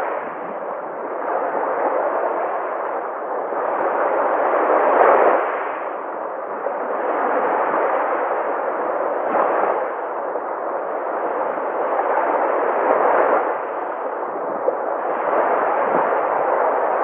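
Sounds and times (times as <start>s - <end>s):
sea waves surf: 0.0s - 17.0s.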